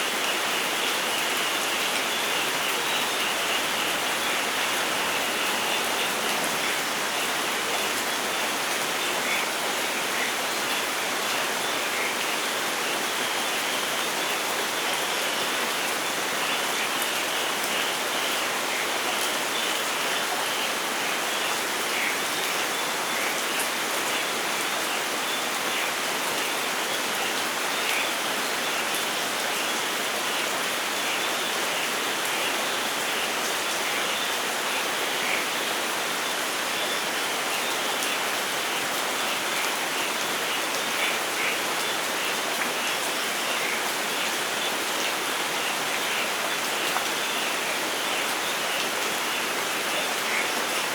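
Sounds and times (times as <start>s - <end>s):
rain hissing in forest: 0.0s - 50.9s.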